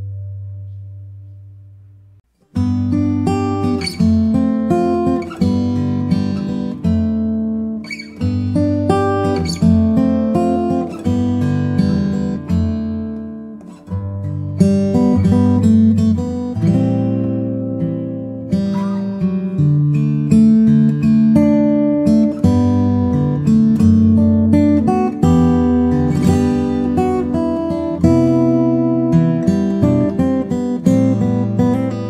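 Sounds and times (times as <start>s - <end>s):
acoustic guitar music: 0.0s - 32.0s.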